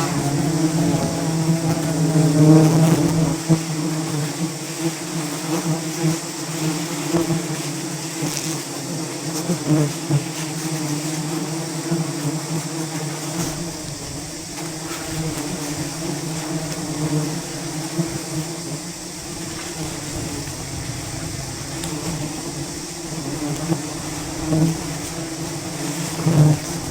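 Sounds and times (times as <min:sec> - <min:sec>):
bees buzzing: 0:00.0 - 0:26.9.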